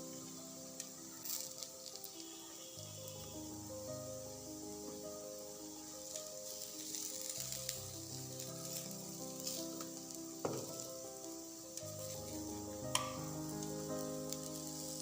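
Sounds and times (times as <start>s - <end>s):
kebabs sizzling on a grill: 0.0s - 15.0s
soft background music: 0.0s - 15.0s.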